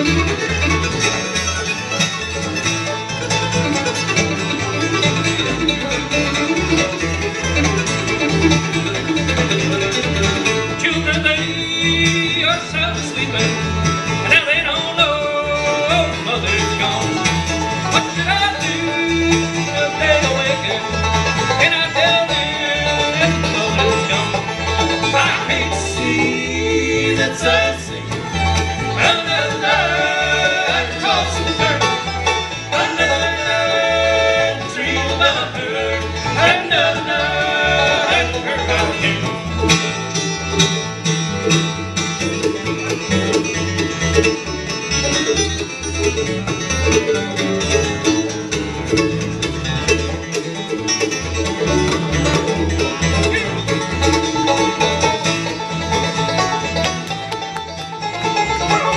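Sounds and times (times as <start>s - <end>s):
bluegrass band playing: 0.0s - 58.9s.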